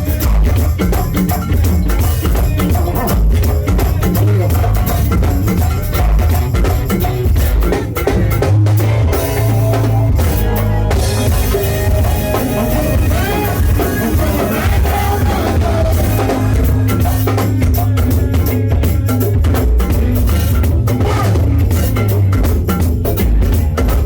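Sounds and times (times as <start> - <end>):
drum kit and percussion groove: 0.0 - 24.0
heavy bass line: 0.0 - 24.0.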